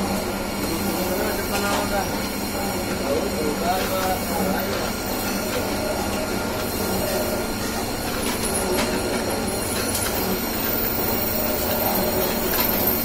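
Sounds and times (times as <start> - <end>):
machine whirring and rattling: 0.0 - 13.0.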